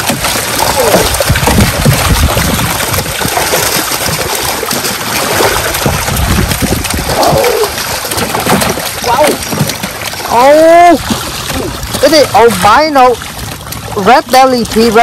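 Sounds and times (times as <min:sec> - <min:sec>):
fish thrashing and splashing: 0:00.0 - 0:15.0.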